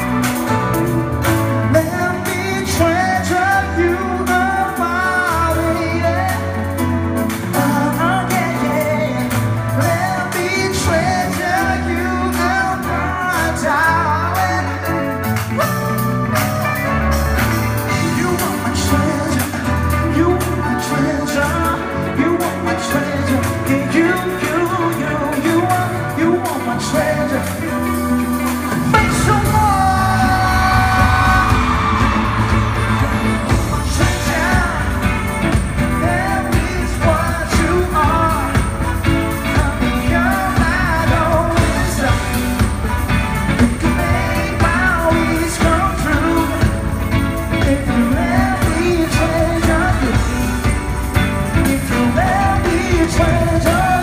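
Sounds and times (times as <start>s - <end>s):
man singing: 0.0s - 15.9s, 17.8s - 54.0s
live pop-rock band: 0.0s - 54.0s.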